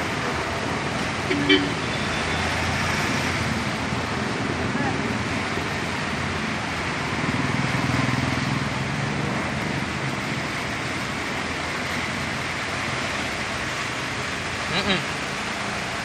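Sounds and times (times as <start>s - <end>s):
wheels churning through water: 0.0s - 16.0s.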